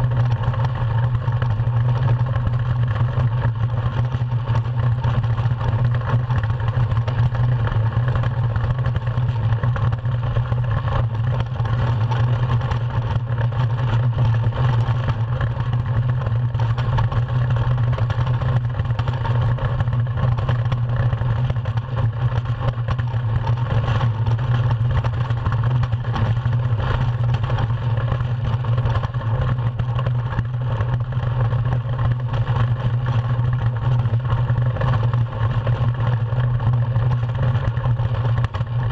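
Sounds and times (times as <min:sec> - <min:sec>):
runners rumbling on ice: 0:00.0 - 0:38.9
wind noise on camera: 0:00.0 - 0:38.9.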